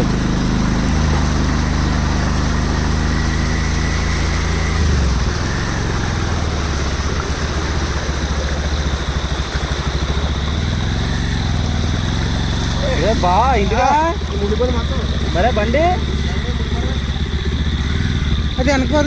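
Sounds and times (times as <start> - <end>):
motorbike engine pulsing: 0.0 - 19.0.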